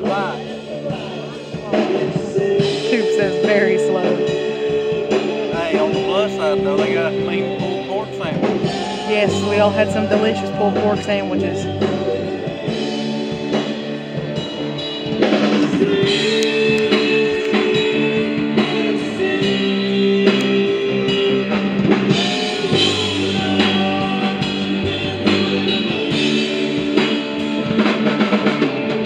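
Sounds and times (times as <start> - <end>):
band music with drums and guitar: 0.0 - 29.0.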